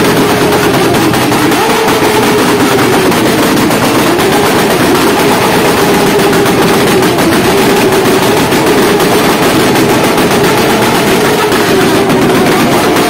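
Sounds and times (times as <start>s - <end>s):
exhaust crackling: 0.0s - 13.0s
motorcycle engine at high revs: 0.0s - 13.0s.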